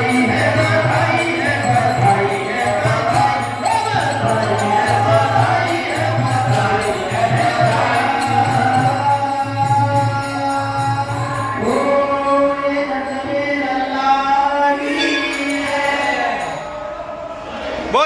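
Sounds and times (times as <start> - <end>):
devotional singing: 0.0 - 18.0.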